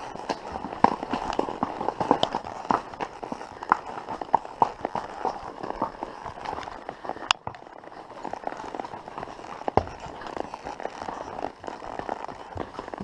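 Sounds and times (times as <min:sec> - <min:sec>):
horse hooves clopping on rocky dirt: 0:00.0 - 0:13.0.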